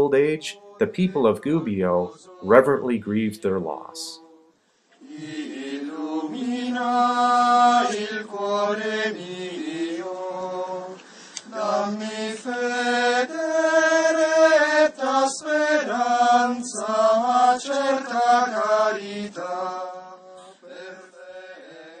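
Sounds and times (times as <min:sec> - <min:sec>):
person singing a slow chant: 0:00.3 - 0:22.0.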